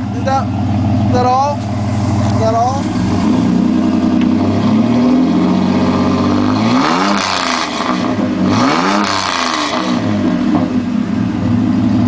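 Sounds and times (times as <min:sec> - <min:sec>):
truck exhaust idling and revving: 0:00.0 - 0:12.0.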